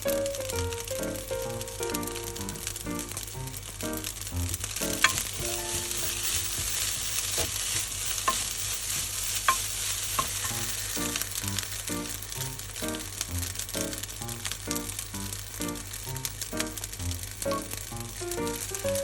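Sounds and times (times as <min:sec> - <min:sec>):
rice sizzling in a frying pan: 0:00.0 - 0:19.0.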